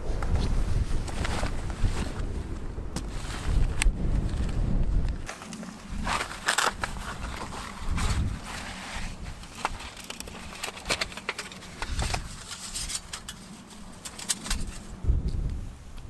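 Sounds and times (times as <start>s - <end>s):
fabric pouch and grass rustling: 0.0s - 15.3s.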